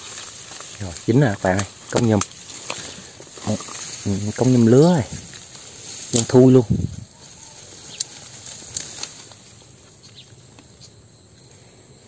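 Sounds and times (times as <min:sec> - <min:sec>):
leaves and stems rustling: 0:00.0 - 0:12.0.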